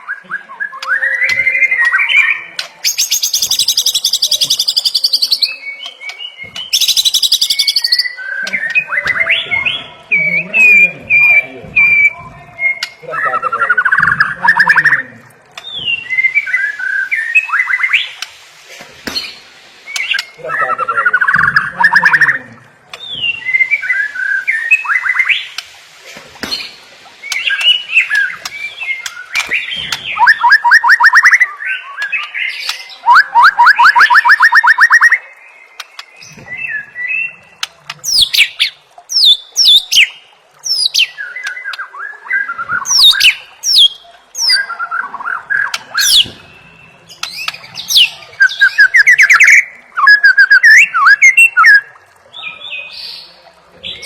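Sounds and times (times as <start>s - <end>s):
bird singing varied song: 0.0s - 18.3s, 19.1s - 25.6s, 26.4s - 54.0s.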